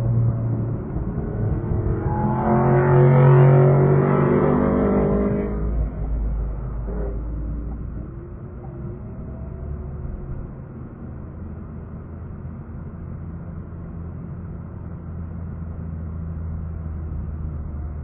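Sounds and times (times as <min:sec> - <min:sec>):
car engine hum inside cabin: 0:00.0 - 0:18.0.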